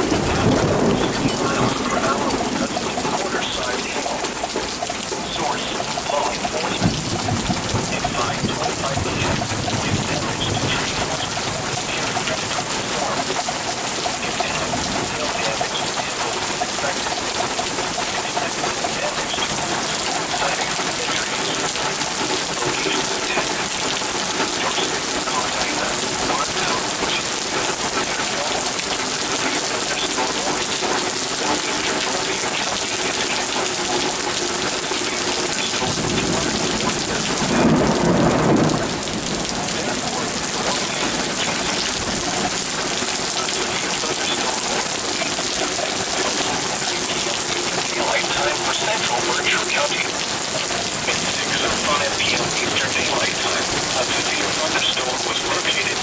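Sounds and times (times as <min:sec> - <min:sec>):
thunder rolling: 0:00.0 - 0:54.8
steady rain falling: 0:00.0 - 0:56.0.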